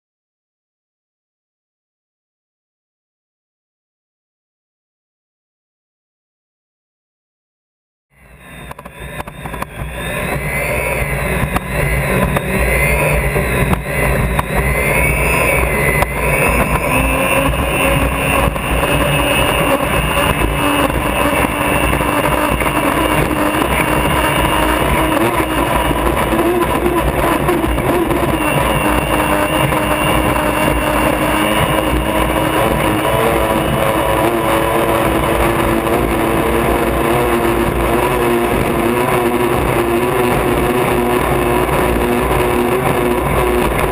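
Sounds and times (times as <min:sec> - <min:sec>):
high wavering whine: 0:08.1 - 0:43.9
turbine engine running: 0:08.2 - 0:43.9
water noise: 0:08.6 - 0:43.9
wind noise: 0:08.6 - 0:43.9.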